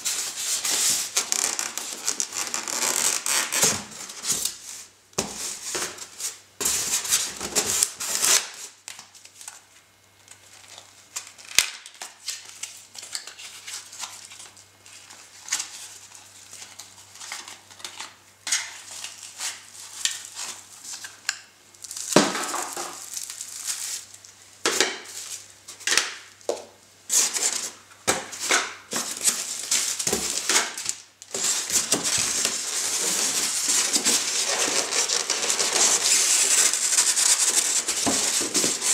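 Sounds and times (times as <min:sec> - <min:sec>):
foam and plastic packaging crinkling: 0:00.0 - 0:24.4, 0:27.1 - 0:38.9.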